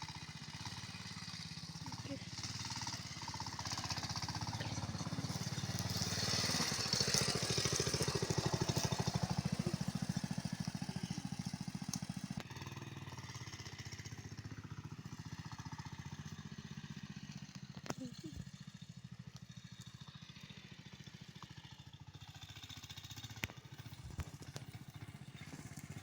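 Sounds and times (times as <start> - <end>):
small vehicle engine running: 0.0 - 26.0.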